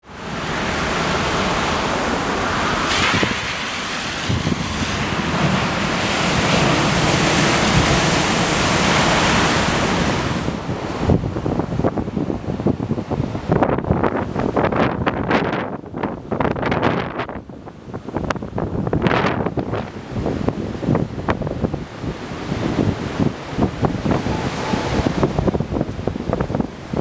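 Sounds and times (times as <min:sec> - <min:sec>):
strong wind: 0:00.0 - 0:27.0
waves breaking roar: 0:00.0 - 0:27.0
wind gusts buffeting microphone: 0:00.1 - 0:27.0.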